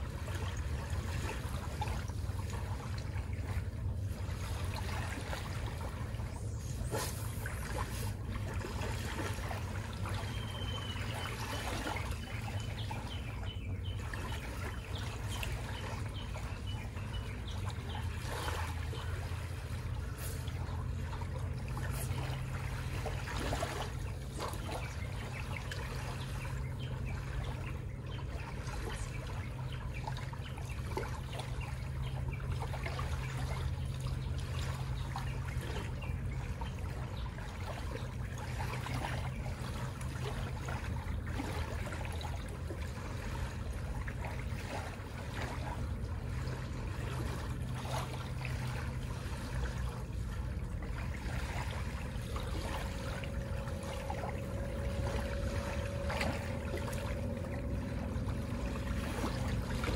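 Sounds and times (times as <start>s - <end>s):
steady low hum: 0.0s - 59.9s
water lapping and trickling: 0.0s - 59.9s.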